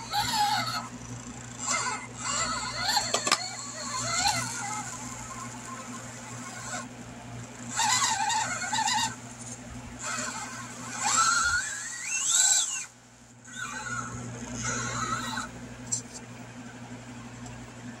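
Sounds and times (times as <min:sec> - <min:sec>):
rc car motor whining: 0:00.0 - 0:06.9, 0:07.5 - 0:16.1.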